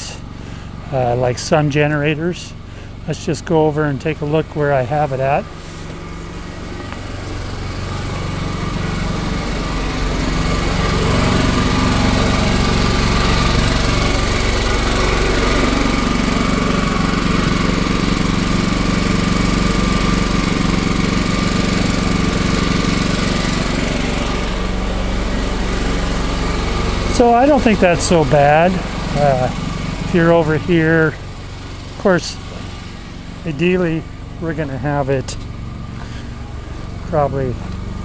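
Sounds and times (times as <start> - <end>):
generator engine droning: 0.0 - 38.0.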